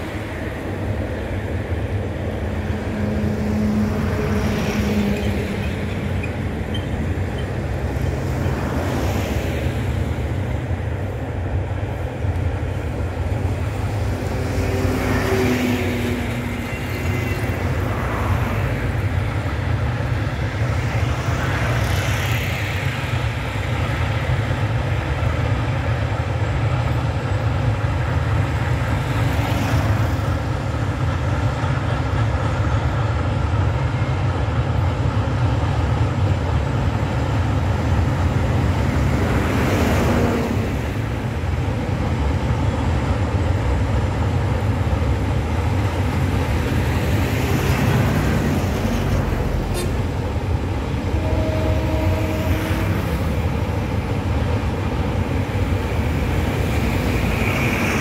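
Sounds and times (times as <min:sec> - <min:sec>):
distant freight train rumbling: 0:00.0 - 0:58.0.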